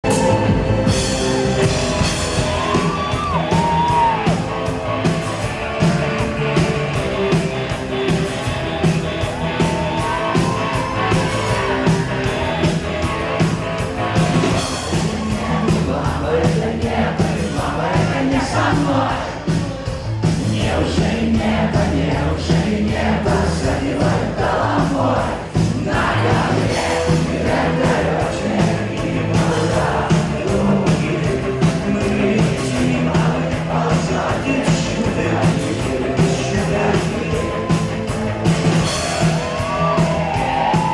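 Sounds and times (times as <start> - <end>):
crowd singing and shouting: 0.0 - 40.9
drum beat: 0.0 - 40.9
live rock band: 0.0 - 40.9.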